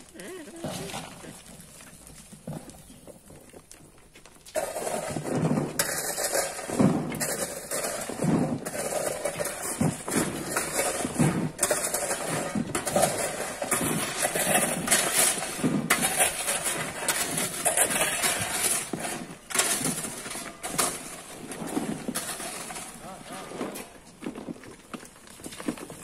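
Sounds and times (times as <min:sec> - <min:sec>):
rocks and gravel clattering: 0:00.0 - 0:26.0.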